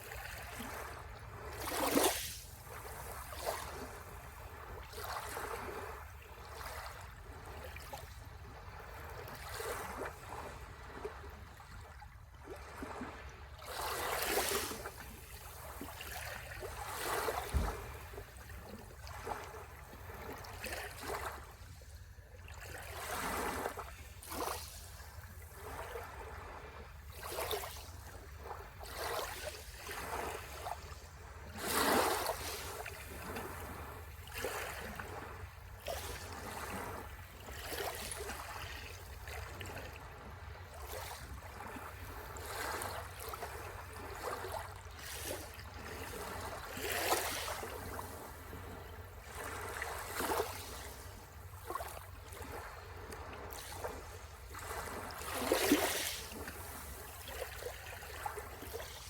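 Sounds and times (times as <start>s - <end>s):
waves breaking on shore: 0.0s - 59.0s.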